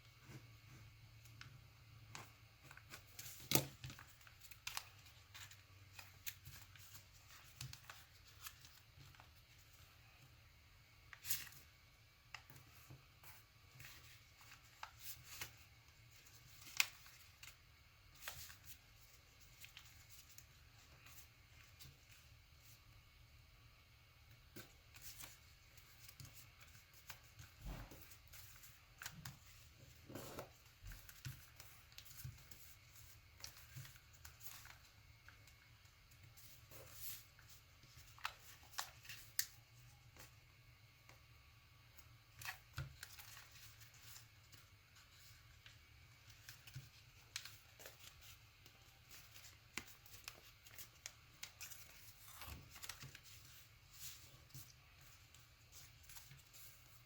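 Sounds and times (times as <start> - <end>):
paper folding and rustling: 2.1 - 10.2, 12.3 - 22.8, 24.4 - 40.4, 42.0 - 57.0.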